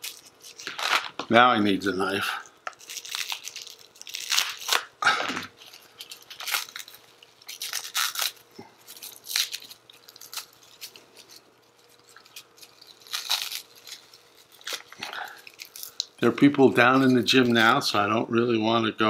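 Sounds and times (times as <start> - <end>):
packaging crinkling and tearing: 0.0 - 17.8.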